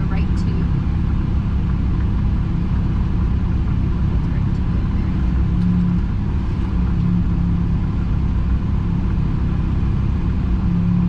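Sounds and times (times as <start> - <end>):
car engine rumbling from inside cabin: 0.0 - 11.0.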